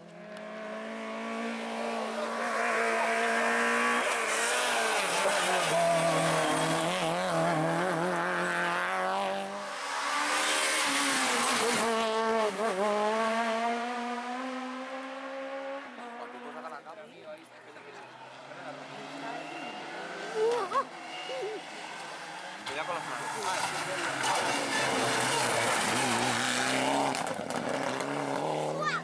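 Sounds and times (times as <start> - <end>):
rally car engine revving: 0.0 - 17.0, 17.8 - 29.0.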